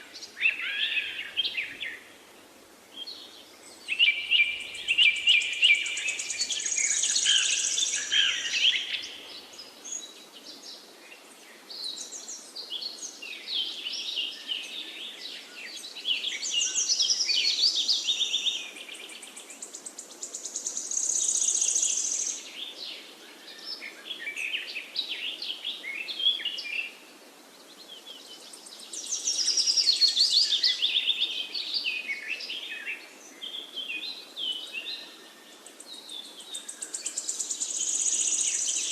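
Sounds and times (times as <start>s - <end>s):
faint outdoor hiss: 0.0s - 38.9s
songbirds chirping: 0.0s - 38.9s.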